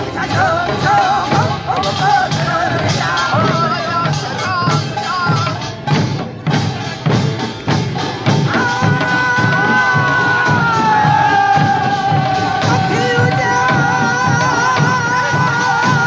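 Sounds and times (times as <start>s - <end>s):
drums beating a steady rhythm: 0.0s - 16.0s.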